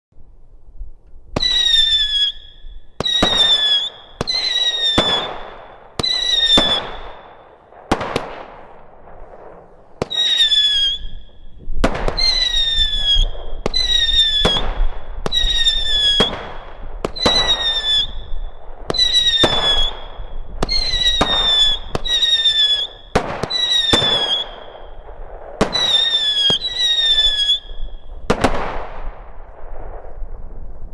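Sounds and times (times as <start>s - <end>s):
whistling firework shots: 1.4s - 30.9s.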